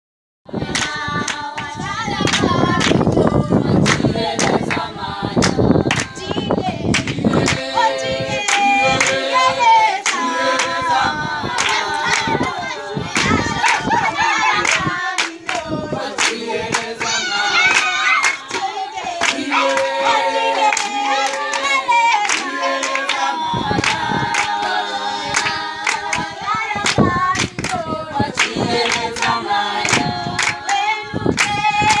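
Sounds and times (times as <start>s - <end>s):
girls singing a cappella: 0.5s - 32.0s
hand claps: 0.7s - 3.2s, 3.8s - 7.7s, 8.4s - 10.8s, 11.5s - 12.6s, 13.2s - 13.9s, 14.6s - 17.0s, 17.6s - 20.0s, 20.6s - 23.2s, 23.8s - 32.0s.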